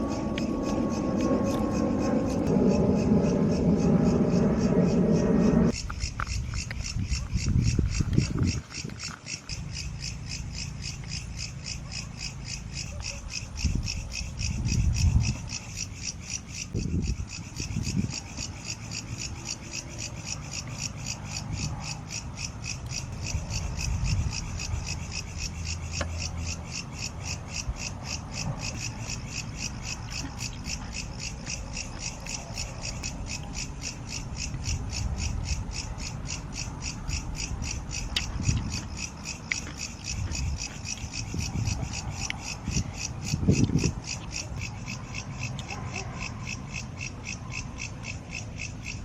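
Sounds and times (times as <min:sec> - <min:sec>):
insects calling in fast pulse: 0:00.0 - 0:49.0.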